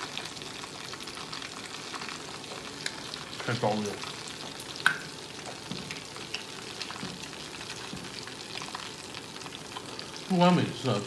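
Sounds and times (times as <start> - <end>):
meat sizzling on a grill pan: 0.0 - 11.0.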